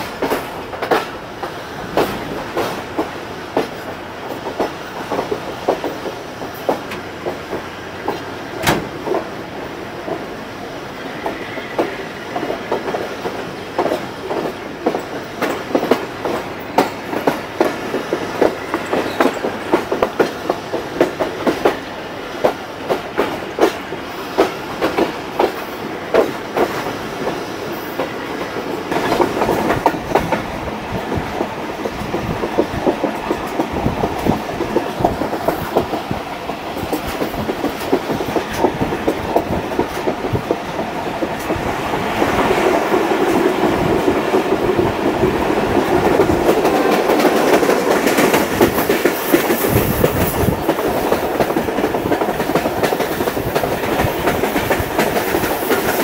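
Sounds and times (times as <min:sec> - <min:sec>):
train rumble: 0:00.0 - 0:56.0
wheels clacking over rail joints: 0:00.0 - 0:56.0.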